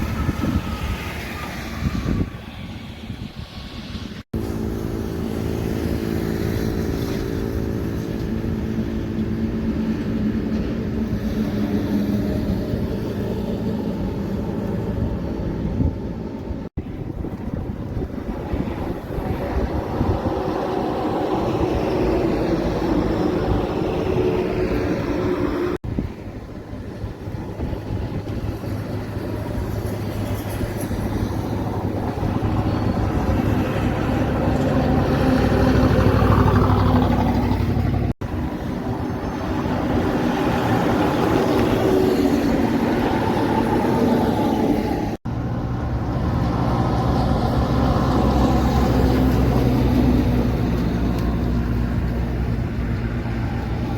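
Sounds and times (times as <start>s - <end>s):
road noise: 0.0s - 53.9s
truck engines: 0.0s - 53.9s.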